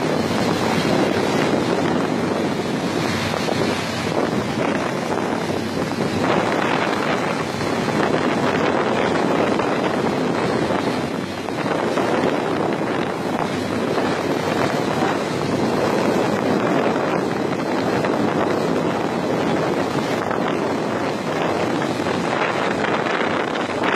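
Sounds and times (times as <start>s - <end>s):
water rushing along boat hull: 0.0s - 23.9s
wind buffeting microphone: 0.0s - 23.9s.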